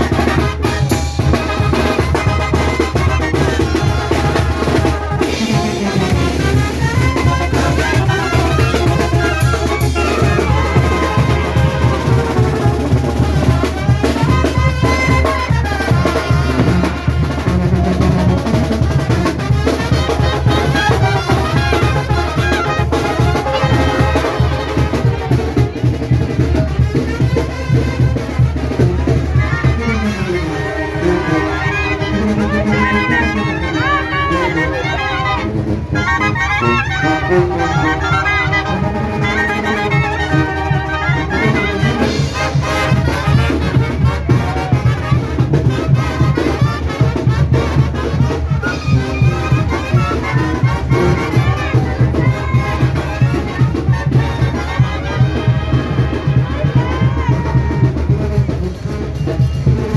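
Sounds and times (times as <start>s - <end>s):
brass band playing: 0.0s - 59.9s
drum beat with snare rolls: 0.0s - 59.9s.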